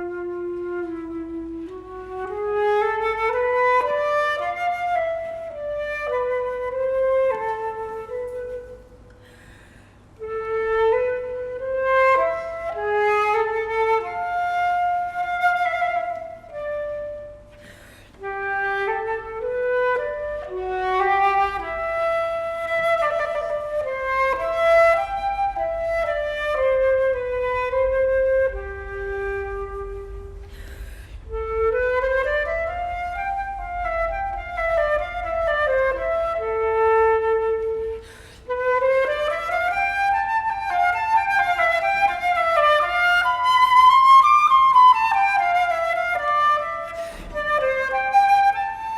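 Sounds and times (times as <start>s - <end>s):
flute melody: 0.0s - 9.5s, 10.1s - 48.9s
steady low hum: 0.0s - 44.6s.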